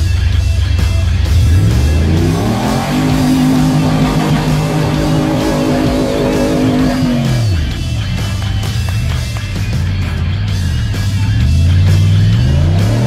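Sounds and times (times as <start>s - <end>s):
guitar music: 0.0s - 13.0s
off-road vehicle engine revving: 0.0s - 13.0s.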